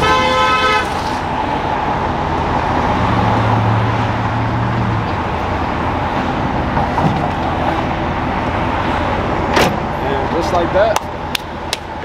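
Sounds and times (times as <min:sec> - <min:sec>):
passing cars: 0:00.0 - 0:12.0.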